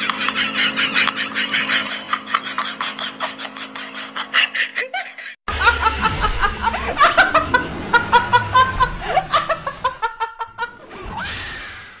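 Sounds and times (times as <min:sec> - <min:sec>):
woman laughing: 0:00.2 - 0:10.8.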